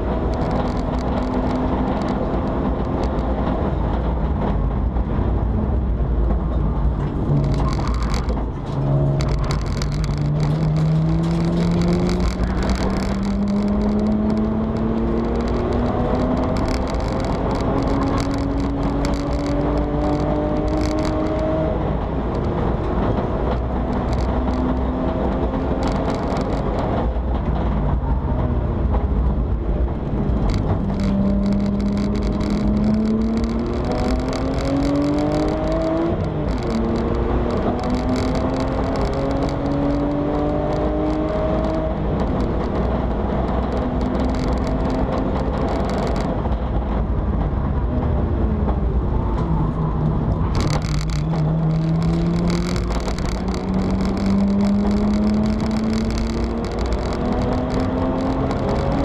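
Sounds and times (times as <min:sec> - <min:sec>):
race car engine from cabin: 0:00.0 - 0:59.0
wind and road noise: 0:00.0 - 0:59.0.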